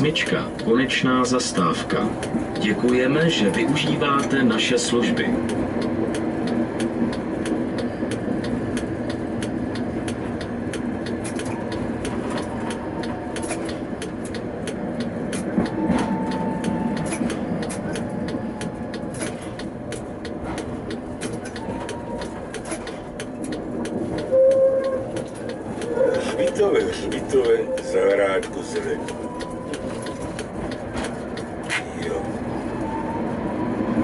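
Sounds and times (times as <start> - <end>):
tram drive hum: 0.0 - 34.0
wheels clicking on rails: 0.0 - 34.0.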